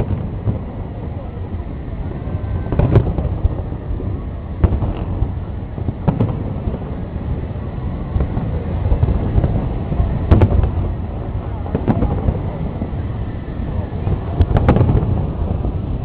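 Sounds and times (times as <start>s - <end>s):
low rumble of bursts: 0.0s - 16.0s.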